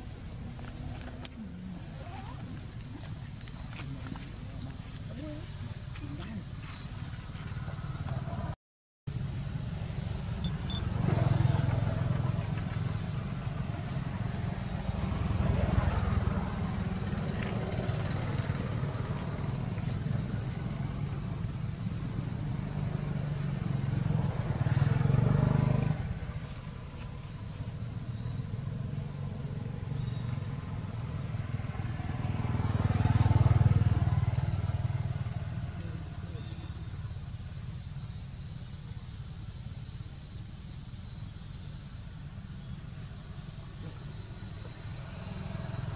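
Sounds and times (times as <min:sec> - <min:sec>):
passing traffic engine hum: 0:00.0 - 0:45.9.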